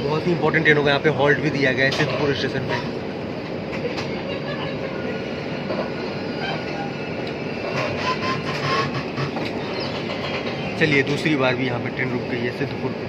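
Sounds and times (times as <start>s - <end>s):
train rumble and wheel noise: 0.0s - 13.0s.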